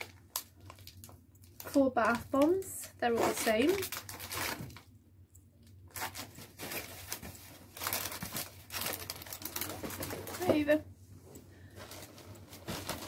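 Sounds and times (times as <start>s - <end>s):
cellophane crinkling: 0.0s - 4.9s, 5.6s - 10.8s, 11.6s - 13.0s.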